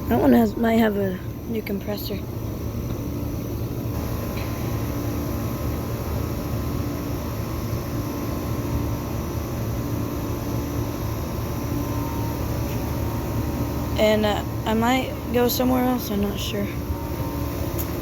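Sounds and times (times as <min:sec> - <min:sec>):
air conditioner units humming: 0:00.0 - 0:18.0.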